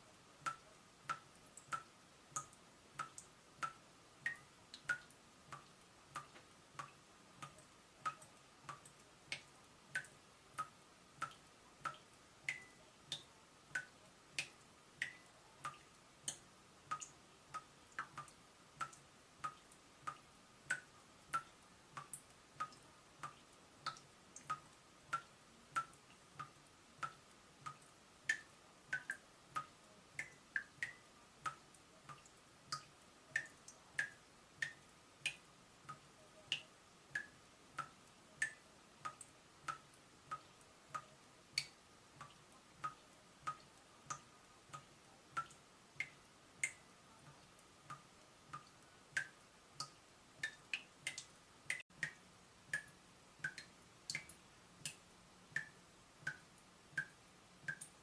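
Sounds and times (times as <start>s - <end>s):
water dripping from a tap: 0.1s - 58.0s.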